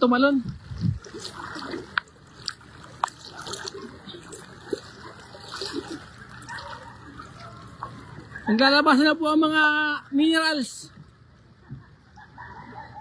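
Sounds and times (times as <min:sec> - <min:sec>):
floodwater flowing and splashing: 0:00.0 - 0:11.0.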